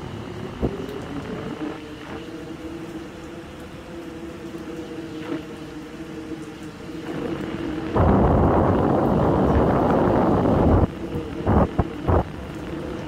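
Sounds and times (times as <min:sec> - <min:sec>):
heavy rain pouring: 0:00.0 - 0:13.0
low mechanical hum: 0:00.0 - 0:13.0.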